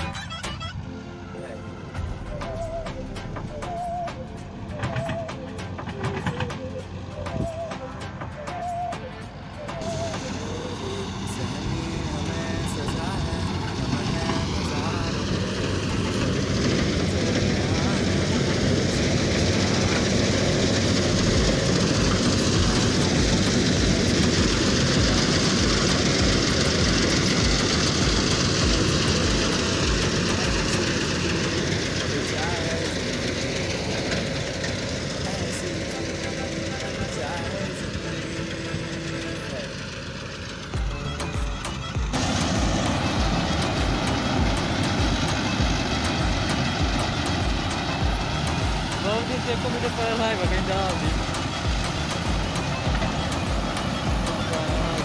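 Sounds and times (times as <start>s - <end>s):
combine harvester engine din: 0.0s - 55.0s.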